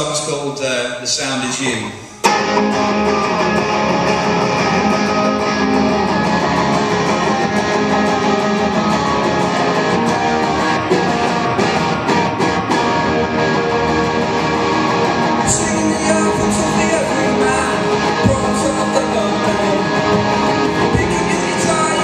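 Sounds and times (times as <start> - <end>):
electric guitar strumming chords: 1.4 - 22.0.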